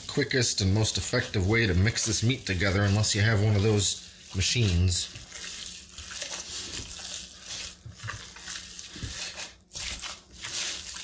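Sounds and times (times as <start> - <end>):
meat squishing under hand: 0.0 - 11.0.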